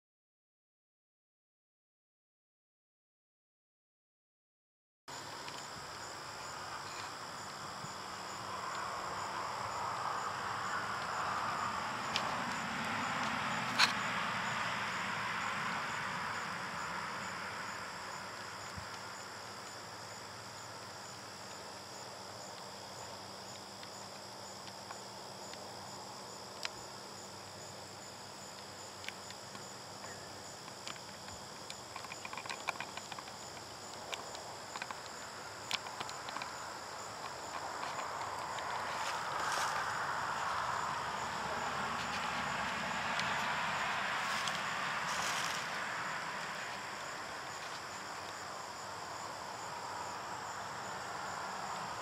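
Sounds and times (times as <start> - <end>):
crickets and insects trilling: 5.1 - 52.0.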